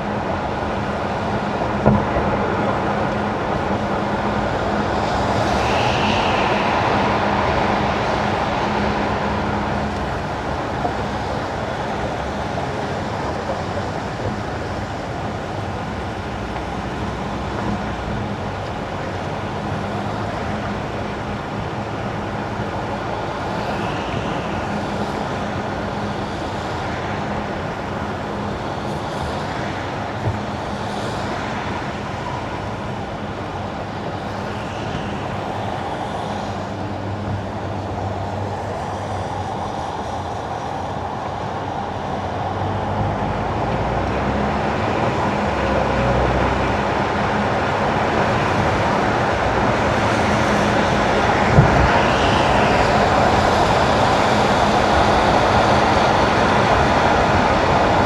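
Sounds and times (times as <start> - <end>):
low car drone: 0.0 - 58.0
tyres hissing on wet asphalt: 1.1 - 58.0.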